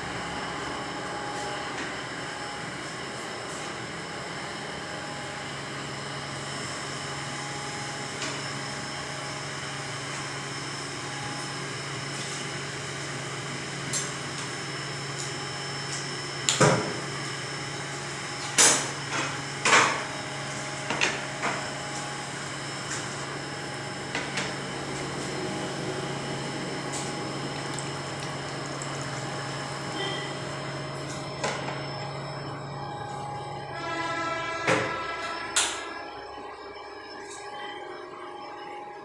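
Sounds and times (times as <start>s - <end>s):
workshop equipment hum and hiss: 0.0s - 39.0s.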